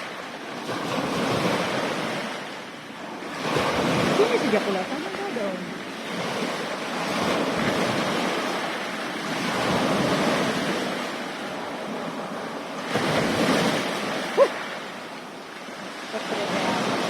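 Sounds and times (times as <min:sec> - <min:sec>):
sea waves breaking: 0:00.0 - 0:17.0.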